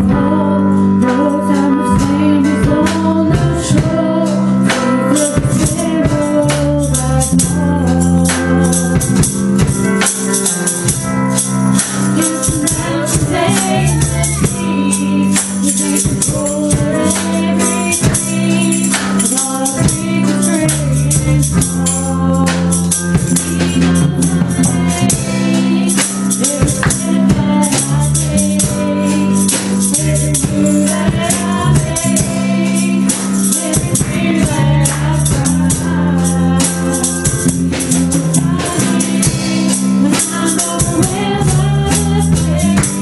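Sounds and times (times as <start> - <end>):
bass line: 0.0 - 43.0
drum kit with cymbals: 0.0 - 43.0
keyboard: 0.0 - 43.0
woman singing into microphone: 0.0 - 43.0.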